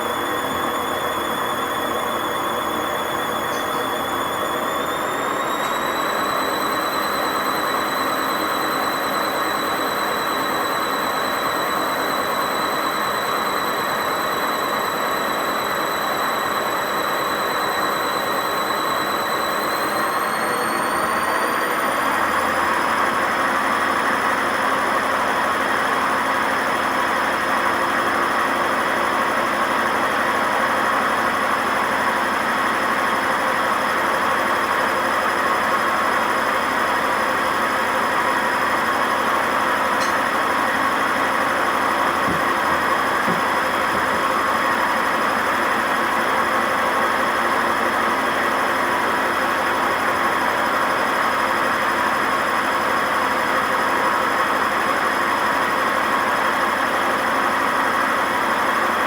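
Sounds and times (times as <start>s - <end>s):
high mechanical whine: 0.0s - 56.1s
washing machine spinning: 0.0s - 59.0s.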